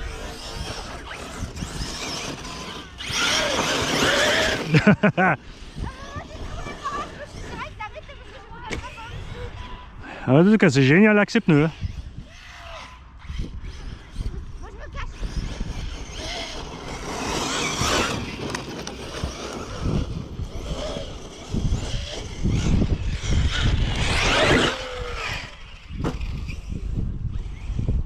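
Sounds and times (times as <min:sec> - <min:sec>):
rc truck motor whine: 0:00.0 - 0:10.1, 0:11.4 - 0:28.0.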